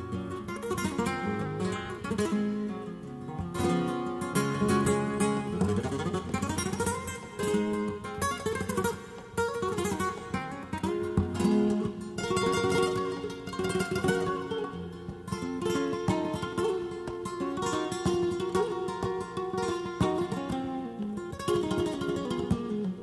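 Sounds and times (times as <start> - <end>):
flamenco guitar: 0.0 - 23.0.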